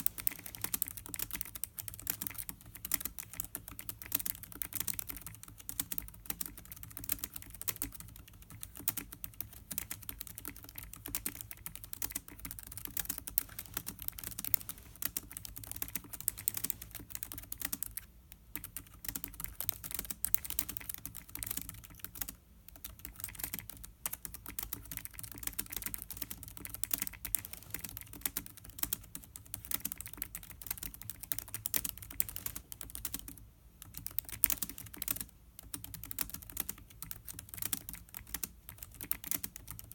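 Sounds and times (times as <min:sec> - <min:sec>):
fast laptop keyboard typing: 0:00.0 - 0:39.9.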